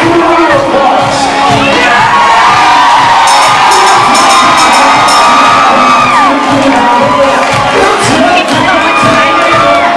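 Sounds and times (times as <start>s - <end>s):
music playing: 0.0s - 9.9s
crowd cheering and whooping: 1.0s - 9.9s.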